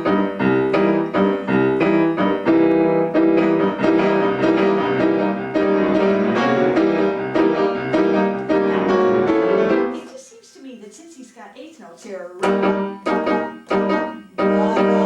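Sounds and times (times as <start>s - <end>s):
piano chords: 0.0s - 10.2s, 12.4s - 15.0s.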